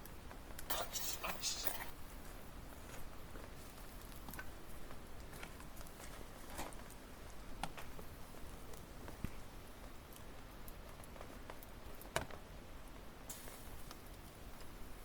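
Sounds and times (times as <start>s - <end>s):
wood fire crackling and snapping: 2.8s - 15.0s.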